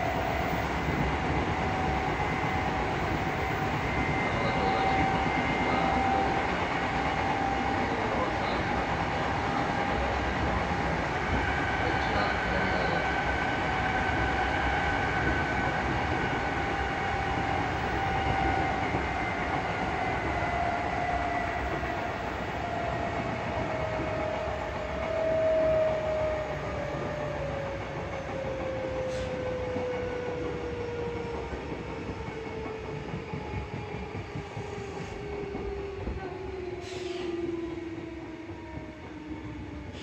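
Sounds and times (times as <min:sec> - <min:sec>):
wheels rumbling on rail: 0:00.0 - 0:40.0.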